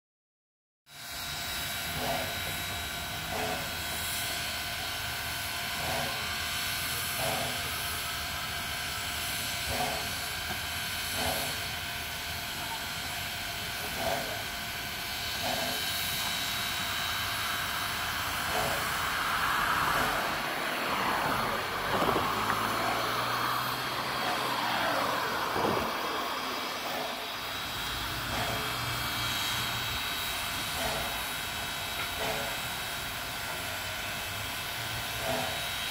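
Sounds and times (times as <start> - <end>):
rushing steam with pitch sweeps: 0.9 - 35.9
steam hissing: 0.9 - 35.9
soft steam puffs: 1.0 - 35.9.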